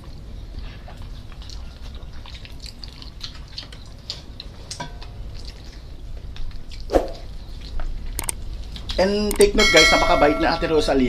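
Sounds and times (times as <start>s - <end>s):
wet chewing and lip-smacking: 0.0s - 9.5s.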